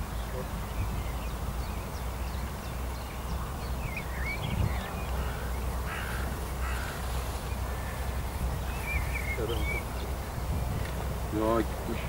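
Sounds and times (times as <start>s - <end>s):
harsh rasping bird calls: 0.0s - 12.0s
steady low rumble: 0.0s - 12.0s.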